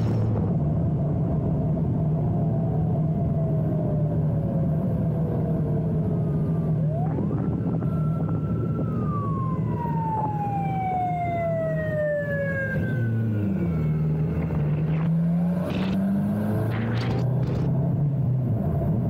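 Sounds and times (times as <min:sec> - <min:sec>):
siren wail: 0:00.1 - 0:16.0.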